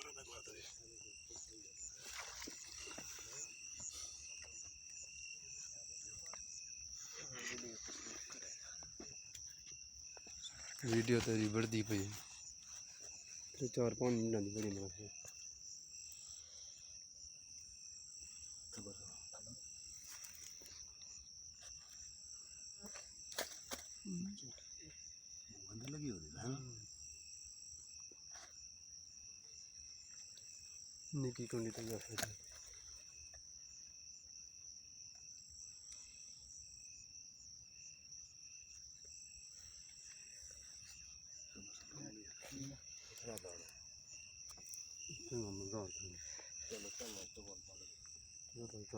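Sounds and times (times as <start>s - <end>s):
high-pitched insect trilling: 0.0s - 48.9s.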